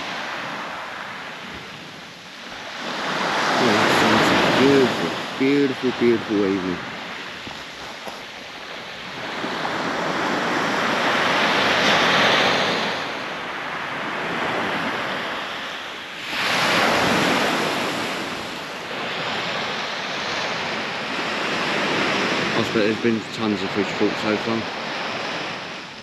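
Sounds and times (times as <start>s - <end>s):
surf breaking on a beach: 0.0s - 26.0s.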